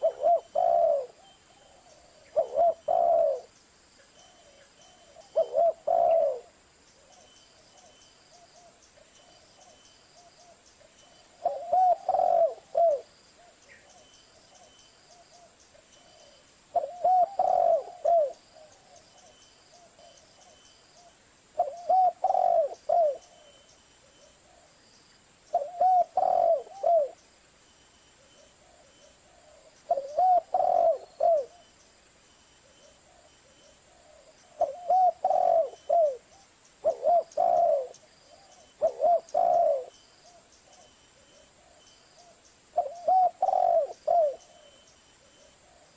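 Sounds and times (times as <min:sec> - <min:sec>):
dove cooing: 0:00.0 - 0:03.5, 0:04.2 - 0:24.8, 0:25.5 - 0:27.2, 0:28.2 - 0:31.7, 0:32.6 - 0:45.9.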